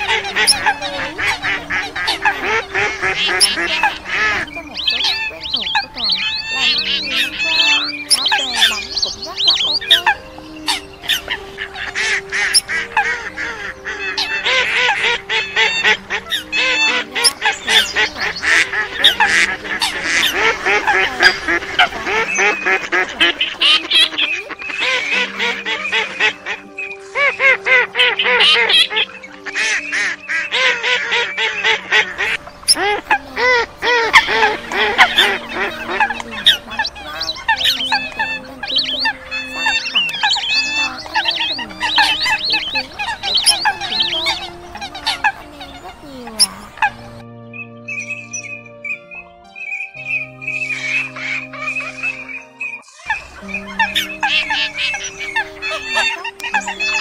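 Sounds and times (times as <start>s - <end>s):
waterfowl calls chorus: 0.0s - 57.0s.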